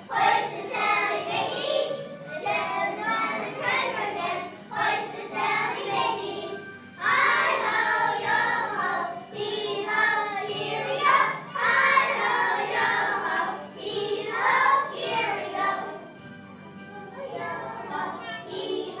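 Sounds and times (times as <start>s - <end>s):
children singing: 0.0s - 16.2s, 16.8s - 19.0s.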